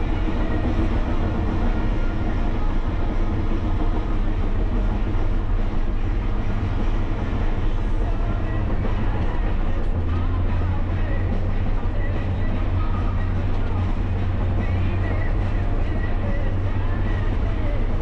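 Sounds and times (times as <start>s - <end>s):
bulldozer diesel engine and tracks: 0.0s - 18.0s.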